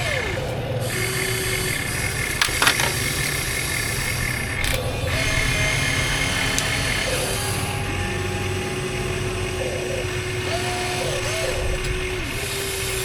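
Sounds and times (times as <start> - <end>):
electric motor whining: 0.0 - 13.0
low machine rumble: 0.0 - 13.0.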